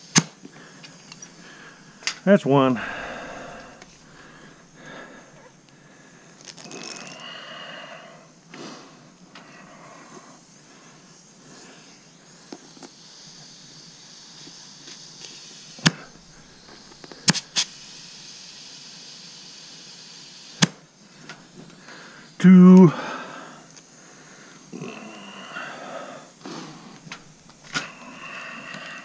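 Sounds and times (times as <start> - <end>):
air hissing into tire: 0.0 - 29.0.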